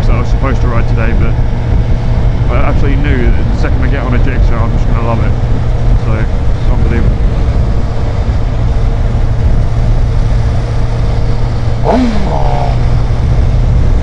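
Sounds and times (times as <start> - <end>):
motorcycle engine drone: 0.0 - 14.0
wind rushing over camera: 0.1 - 14.0.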